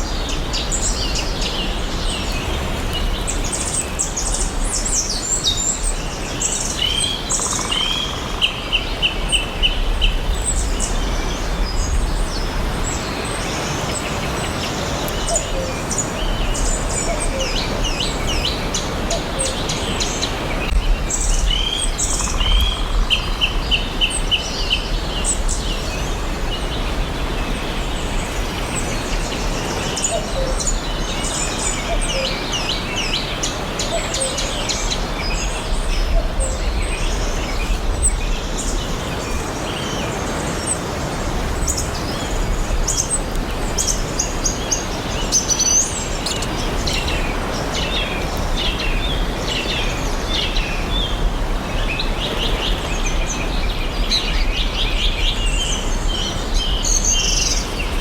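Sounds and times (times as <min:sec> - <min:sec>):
birds chirping and singing: 0:00.0 - 0:58.0
steady background hiss: 0:00.0 - 0:58.0.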